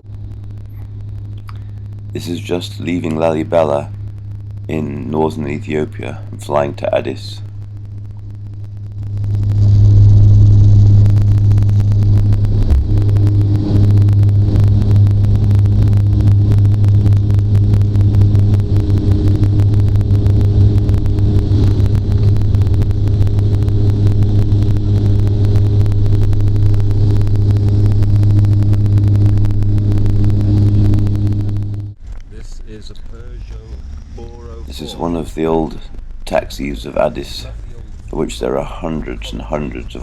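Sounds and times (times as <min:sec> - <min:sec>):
aircraft engines droning: 0:00.0 - 0:40.0.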